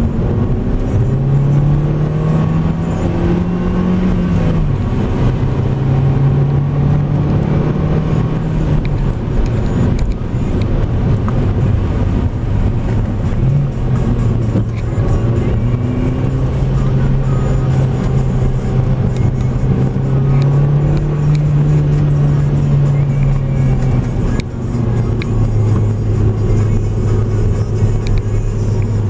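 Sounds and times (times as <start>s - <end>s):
car engine running: 0.0s - 29.0s
road and tyre rumble: 0.0s - 29.0s.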